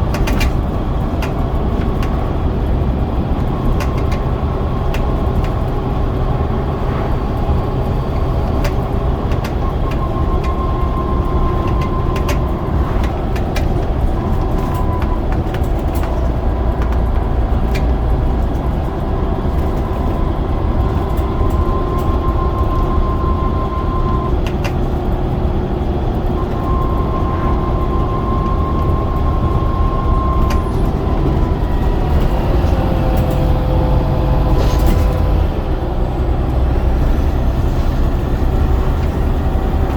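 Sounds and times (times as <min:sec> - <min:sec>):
diesel bus engine droning: 0:00.0 - 0:39.9
high engine whine: 0:00.0 - 0:39.9.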